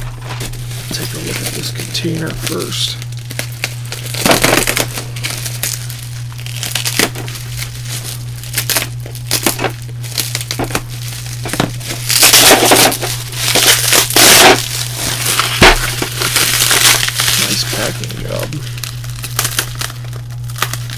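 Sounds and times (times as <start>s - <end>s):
bubble wrap crinkling: 0.0s - 20.9s.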